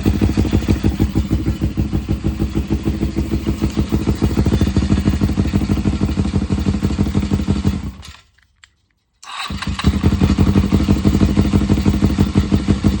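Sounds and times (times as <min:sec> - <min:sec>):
motorcycle engine idling: 0:00.0 - 0:08.2, 0:09.4 - 0:13.0.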